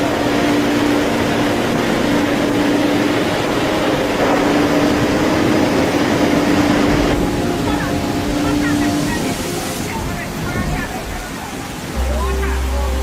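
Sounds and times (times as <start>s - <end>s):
constant rushing noise: 0.0s - 13.0s
motor droning: 0.0s - 13.0s.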